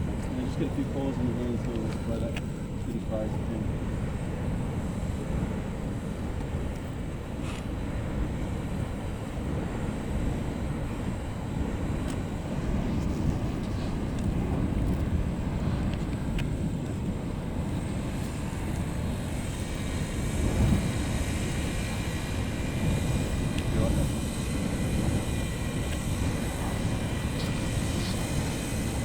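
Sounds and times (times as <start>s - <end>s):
lava lake rumbling roar: 0.0s - 29.0s.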